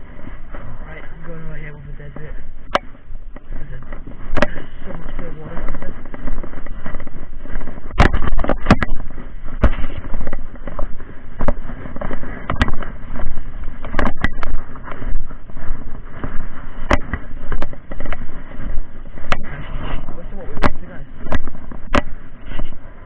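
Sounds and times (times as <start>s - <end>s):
dry grass rustling against clothing: 0.0s - 23.0s
stems knocking on camera: 2.2s - 22.8s.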